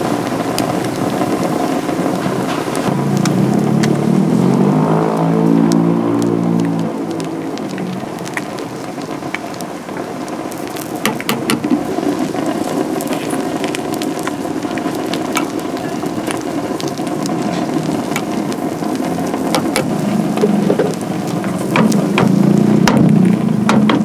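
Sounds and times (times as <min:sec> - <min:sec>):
bread sizzling in metal moulds: 0:00.0 - 0:24.0.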